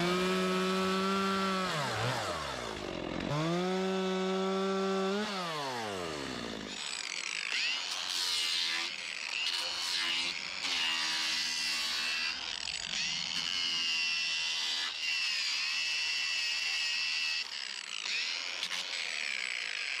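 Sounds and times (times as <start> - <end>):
angle grinder sanding wood: 0.0 - 20.0.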